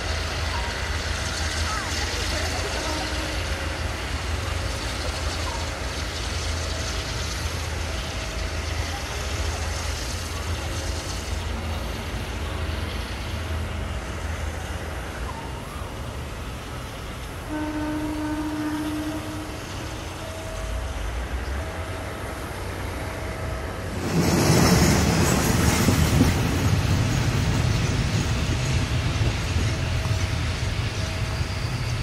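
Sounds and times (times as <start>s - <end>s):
locomotive hiss: 0.0s - 32.0s
locomotive low rumble: 0.0s - 32.0s.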